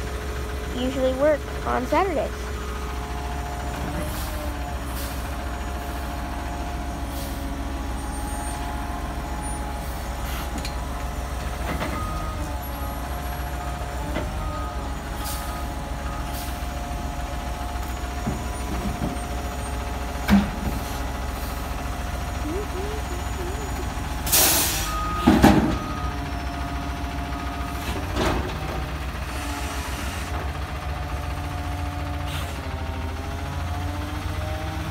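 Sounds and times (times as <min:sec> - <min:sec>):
garbage truck diesel idling: 0:00.0 - 0:34.9.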